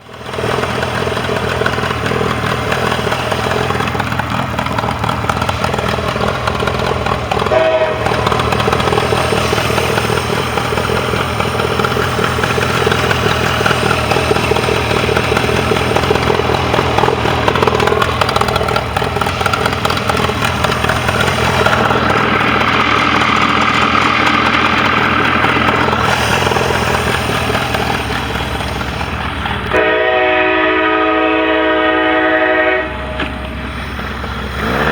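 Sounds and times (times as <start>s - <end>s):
outboard motor running: 0.3s - 30.0s.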